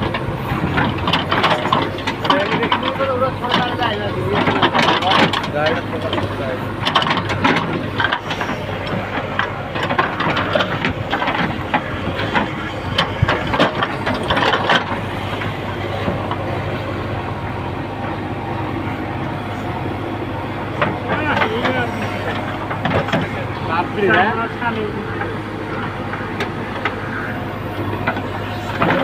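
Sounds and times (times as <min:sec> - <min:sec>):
diesel engine running: 0:00.0 - 0:29.0
knocks and clatters of earth: 0:00.0 - 0:29.0.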